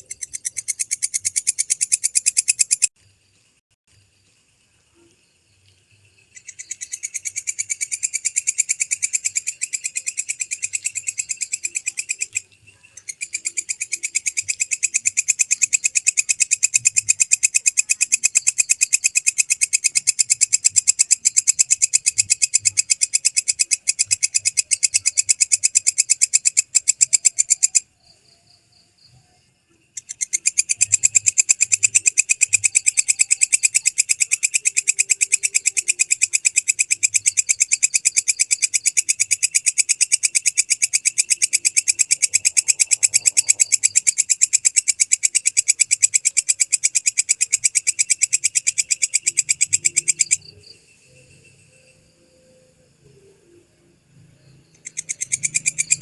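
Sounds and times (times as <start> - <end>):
katydid calling: 0.0 - 2.9, 6.3 - 29.2, 29.9 - 53.6, 54.4 - 56.0.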